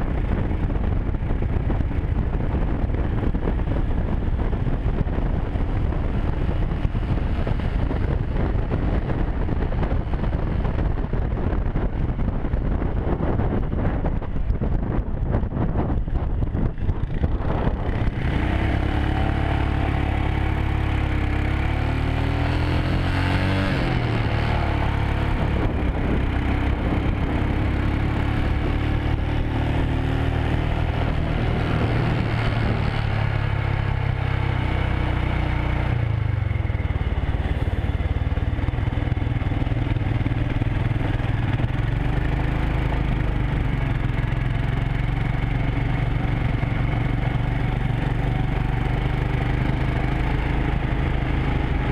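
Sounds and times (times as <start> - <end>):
motorcycle engine revving: 0.0 - 51.9
road and wind noise: 0.0 - 51.9.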